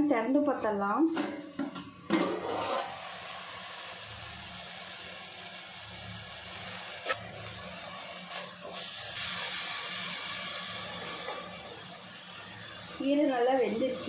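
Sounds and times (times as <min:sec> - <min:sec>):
greens sizzling in pot: 0:01.4 - 0:14.0.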